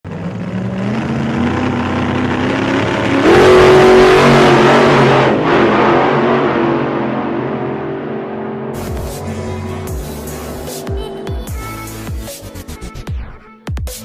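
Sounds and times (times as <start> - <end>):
engine revving: 0.0 - 13.1.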